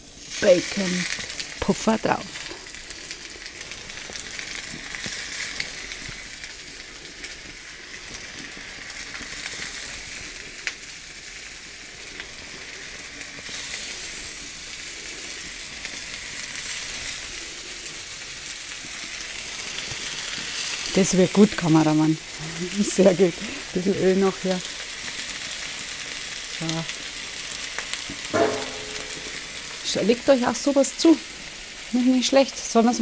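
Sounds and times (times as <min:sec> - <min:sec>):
dough sizzling in oil: 0:00.0 - 0:33.0.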